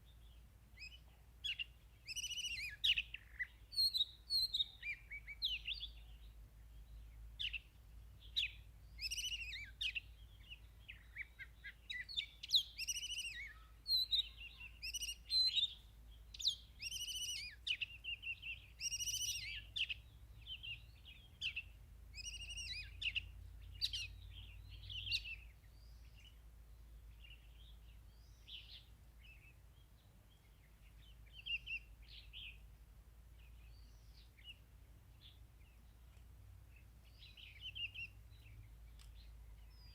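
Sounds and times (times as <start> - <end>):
bird singing whistled notes: 0.0 - 32.6, 33.3 - 39.9.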